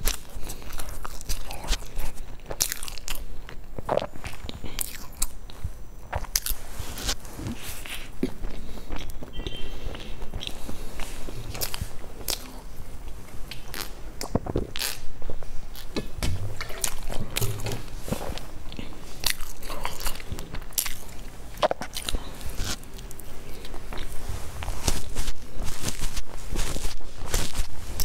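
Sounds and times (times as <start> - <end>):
person chewing crunchy pastry: 0.0 - 28.0.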